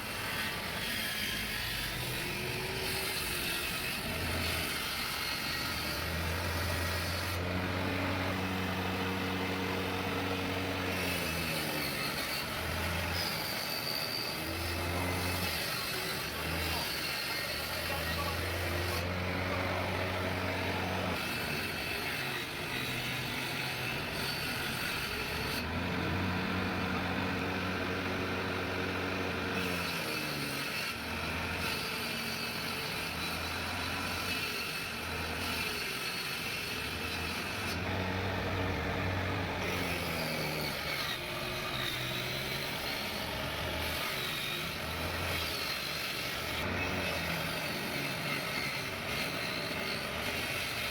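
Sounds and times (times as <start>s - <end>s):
wood rasping: 0.0s - 50.9s
woodworking machine motor hum: 1.9s - 50.9s.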